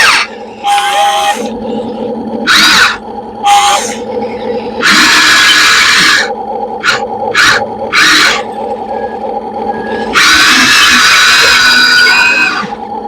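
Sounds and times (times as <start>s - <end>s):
motors whining in bursts: 0.0s - 13.0s
pulsing low hum: 0.0s - 13.0s.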